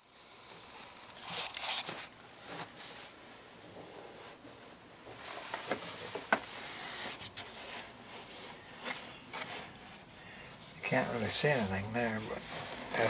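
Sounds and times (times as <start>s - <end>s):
close rustling and rubbing: 0.4s - 13.0s.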